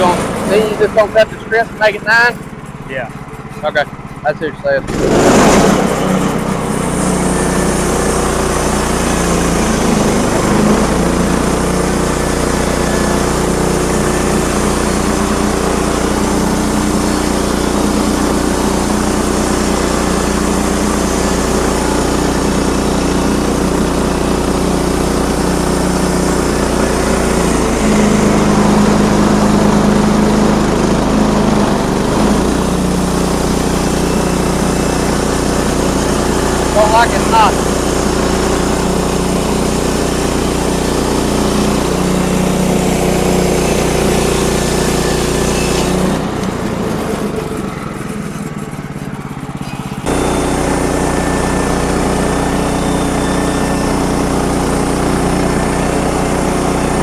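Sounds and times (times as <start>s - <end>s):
sawmill engine running under load: 0.0s - 57.0s.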